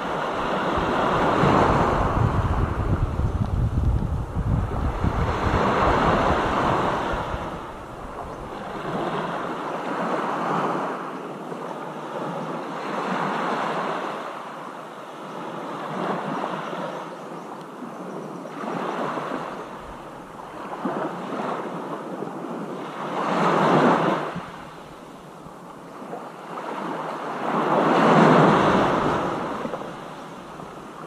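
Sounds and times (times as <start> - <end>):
ocean waves surging: 0.0 - 31.0.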